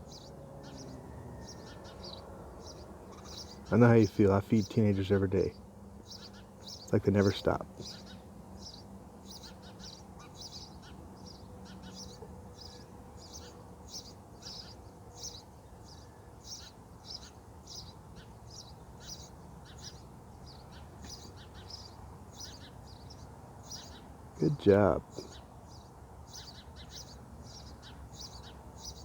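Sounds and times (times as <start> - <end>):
nestling birds cheeping: 0.0 - 29.0.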